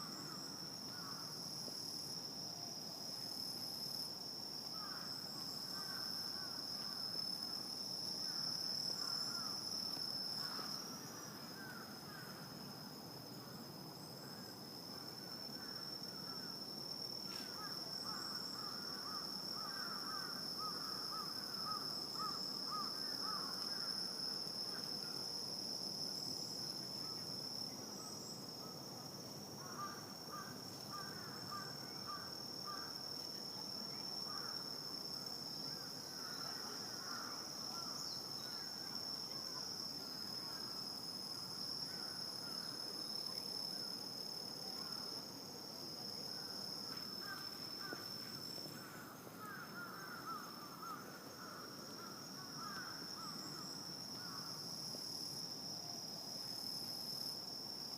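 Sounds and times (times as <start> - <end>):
cricket trill: 0.0 - 57.9.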